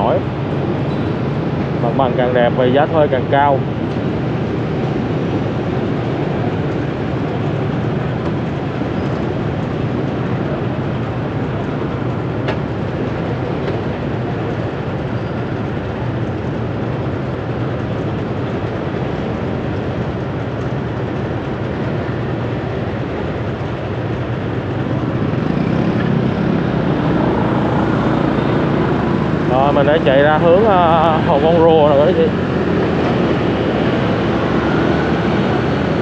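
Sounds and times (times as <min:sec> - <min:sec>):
city traffic road noise: 0:00.0 - 0:36.0.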